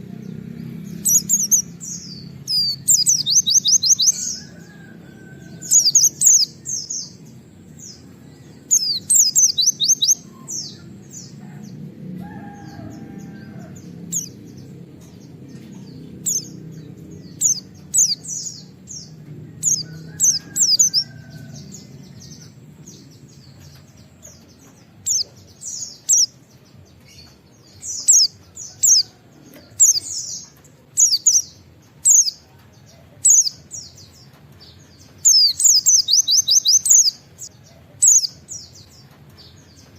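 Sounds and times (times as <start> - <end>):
bird singing rapid song: 0.0 - 39.9
faint low rumble: 0.0 - 39.9.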